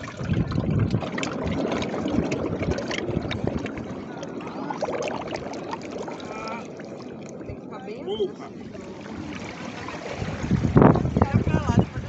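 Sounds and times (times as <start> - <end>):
seawater gurgling through rocks: 0.0 - 12.0
water trickles and splashes: 0.0 - 12.0.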